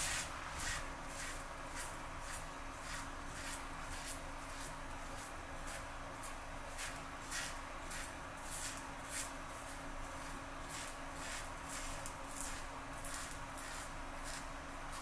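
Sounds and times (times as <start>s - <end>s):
razor scraping stubble: 0.0s - 15.0s.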